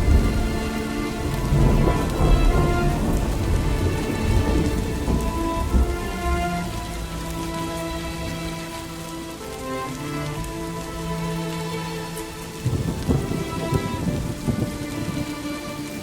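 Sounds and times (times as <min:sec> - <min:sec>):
heavy rain falling: 0:00.0 - 0:16.0
rolling thunder rumble: 0:00.0 - 0:16.0.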